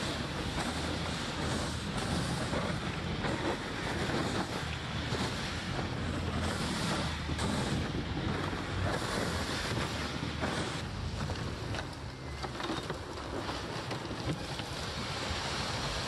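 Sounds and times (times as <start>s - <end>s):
rubber tracks rushing on snow: 0.0s - 16.0s.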